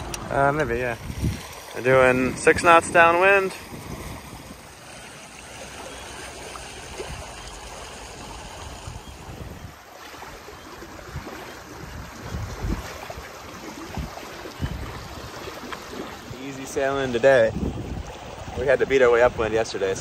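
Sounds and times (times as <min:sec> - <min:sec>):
water rushing past boat hulls: 0:00.0 - 0:20.0.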